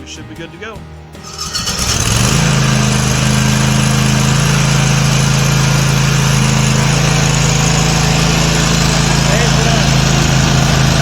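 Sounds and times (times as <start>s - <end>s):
mower engine running: 1.2s - 11.0s.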